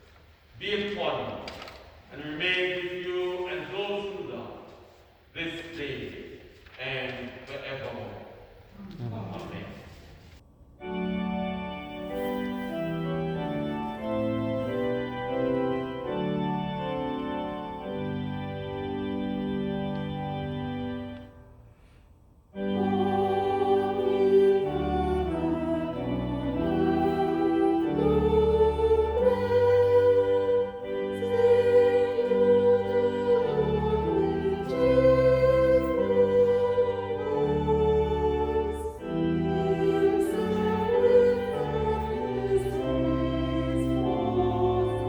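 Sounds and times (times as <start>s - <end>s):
hymn singing: 0.6s - 21.8s, 22.5s - 45.0s
church organ chords: 2.1s - 8.3s, 9.4s - 45.0s.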